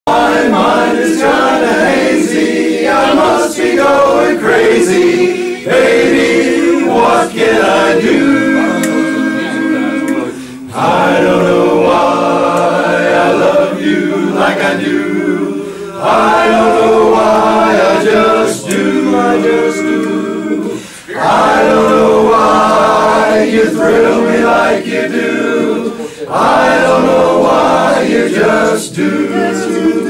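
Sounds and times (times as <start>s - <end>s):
men singing in close harmony: 0.1s - 30.0s.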